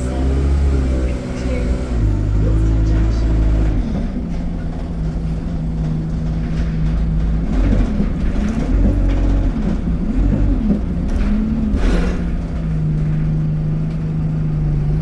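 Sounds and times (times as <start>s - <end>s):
diesel bus engine droning: 0.0s - 15.0s.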